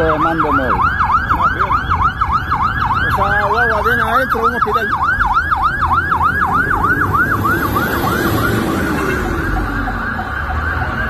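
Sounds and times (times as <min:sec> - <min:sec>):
siren yelping: 0:00.0 - 0:11.0
street traffic rumble: 0:00.0 - 0:11.0.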